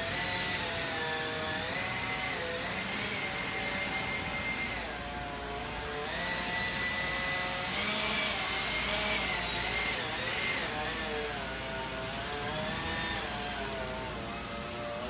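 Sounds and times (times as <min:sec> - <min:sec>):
motor whining: 0:00.0 - 0:15.0.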